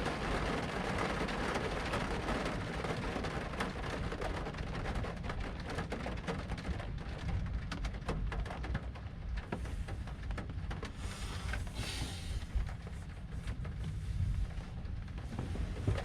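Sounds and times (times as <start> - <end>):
low storm rumble: 0.0 - 16.0
raindrops striking close by: 0.0 - 16.0.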